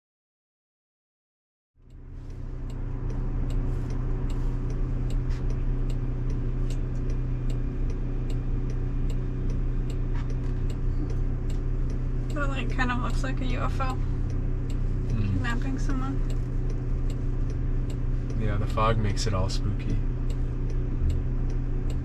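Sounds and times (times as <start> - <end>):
low road drone in car cabin: 1.8 - 22.0
sharp ticks: 1.9 - 19.2, 19.8 - 22.0.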